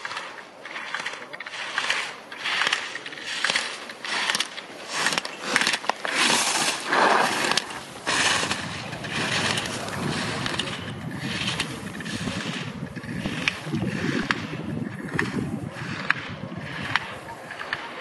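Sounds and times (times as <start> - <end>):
skis scraping on hard snow: 0.0 - 17.8.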